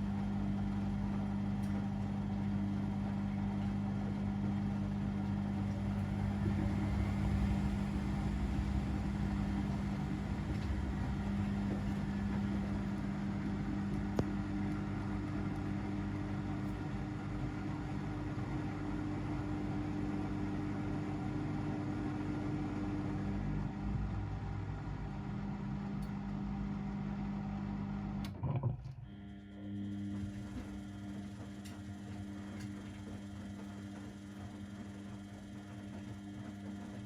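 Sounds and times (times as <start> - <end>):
laundry machines humming: 0.0 - 28.3, 29.0 - 37.0.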